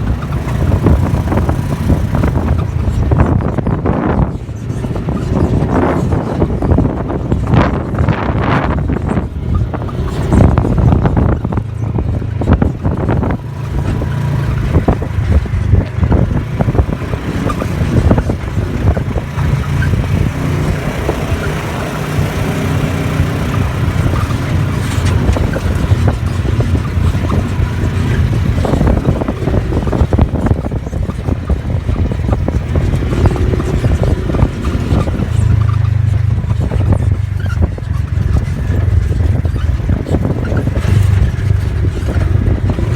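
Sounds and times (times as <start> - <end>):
knocks and rattles: 0.0 - 42.9
vehicle engine running: 0.0 - 42.9.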